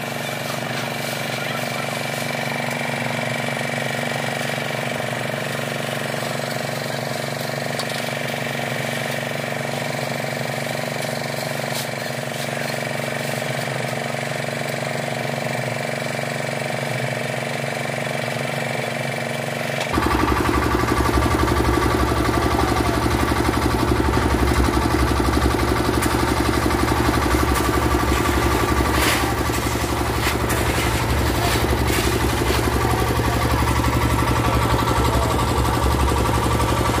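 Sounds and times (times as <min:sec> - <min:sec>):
concrete mixer engine running: 0:00.0 - 0:37.0.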